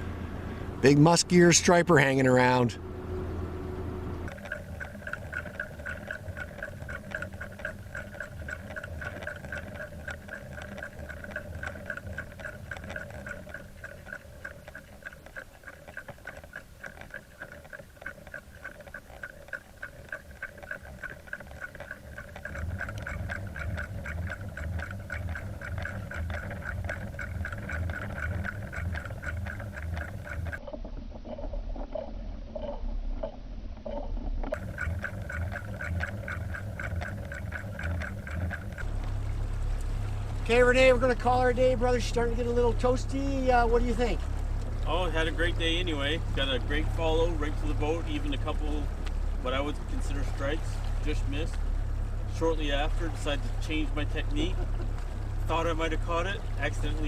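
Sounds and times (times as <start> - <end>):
boat motor running: 0.0 - 57.0.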